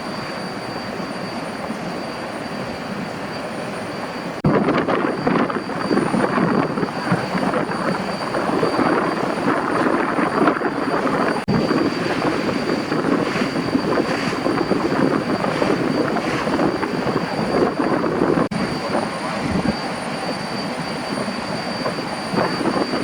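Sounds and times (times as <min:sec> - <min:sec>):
boat rushing noise: 0:00.0 - 0:23.0.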